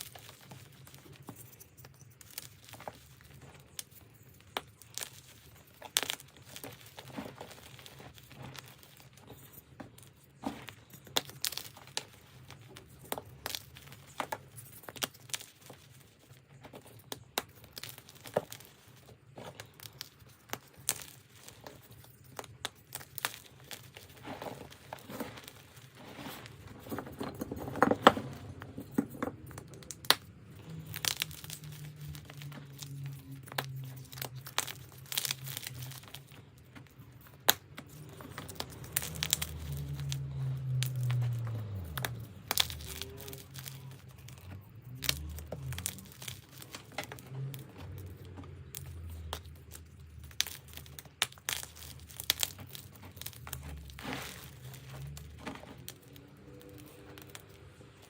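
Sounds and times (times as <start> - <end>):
chalk crunching: 0.0 - 58.0.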